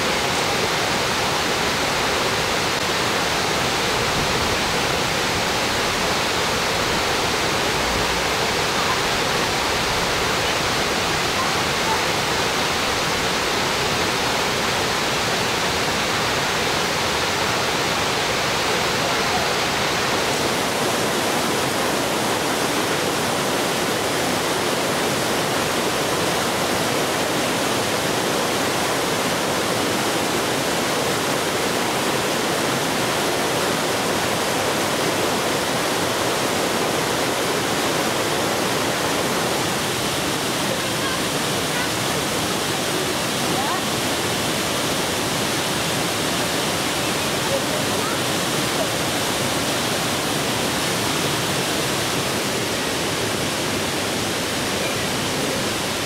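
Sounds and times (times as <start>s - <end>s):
water rushing over boulders: 0.0s - 56.0s.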